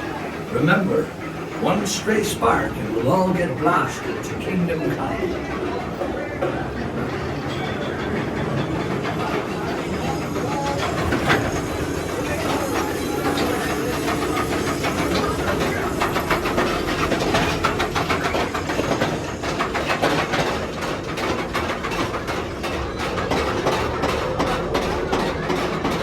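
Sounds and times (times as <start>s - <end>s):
ride cars clacking along track: 0.0s - 26.0s.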